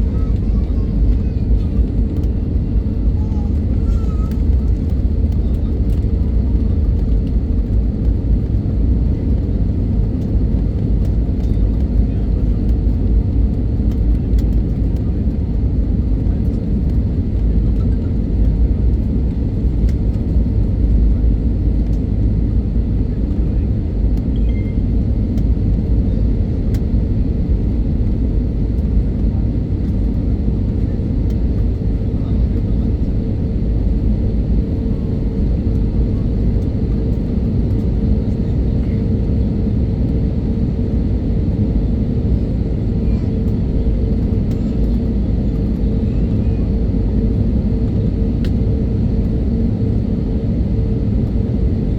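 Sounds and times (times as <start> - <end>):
jet engine and airflow rumble: 0.0 - 51.9.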